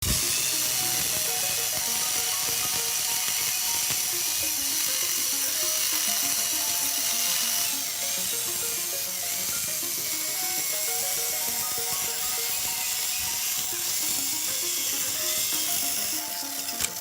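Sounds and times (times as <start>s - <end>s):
melodic background music: 0.0s - 17.0s
power carving tool whining: 0.0s - 17.0s.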